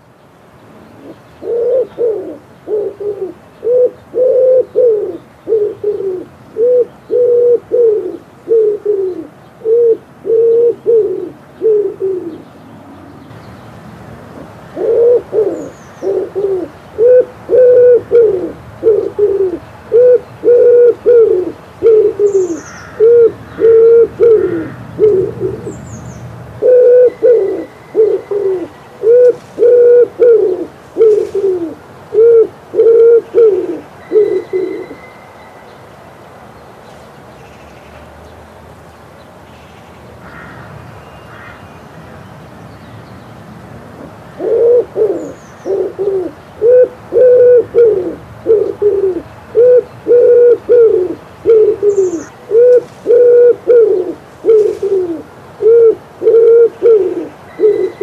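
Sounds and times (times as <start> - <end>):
wood pigeon cooing: 0.9 - 13.4, 14.3 - 25.8, 26.6 - 35.0, 44.0 - 58.0.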